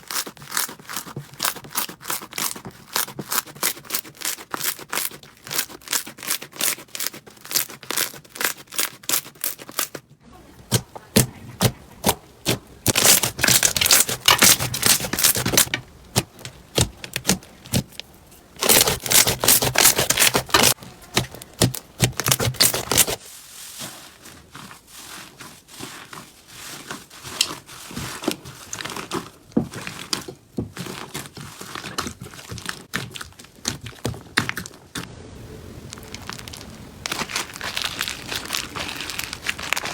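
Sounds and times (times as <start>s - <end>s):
slime crackling and popping: 0.1s - 10.0s, 10.7s - 23.3s, 28.2s - 39.9s.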